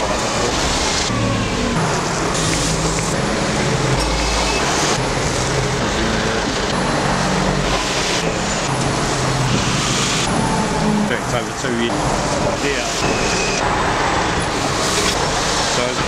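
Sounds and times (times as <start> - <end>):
buses passing in traffic: 0.0 - 16.0
road noise: 0.0 - 16.0.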